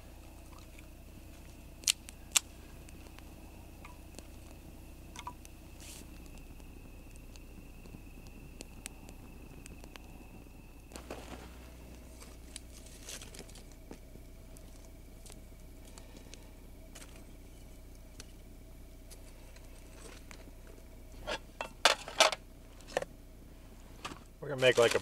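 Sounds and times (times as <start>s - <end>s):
tongs stirring burning wood: 0.0s - 23.1s
campfire crackling and popping: 0.0s - 25.0s.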